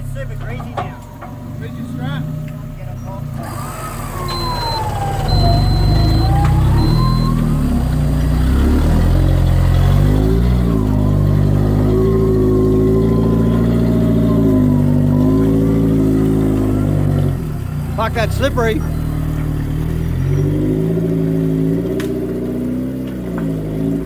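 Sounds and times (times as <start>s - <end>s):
four-wheel drive engine revving: 0.0s - 24.0s.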